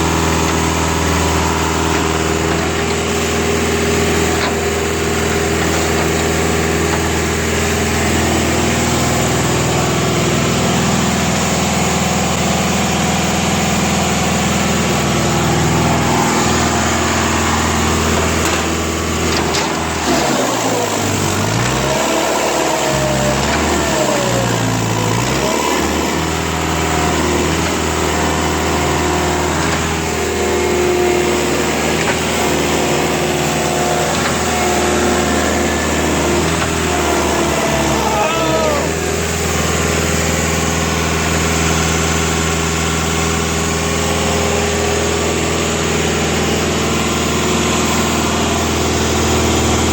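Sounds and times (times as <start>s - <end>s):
concrete pump engine running: 0.0s - 49.9s.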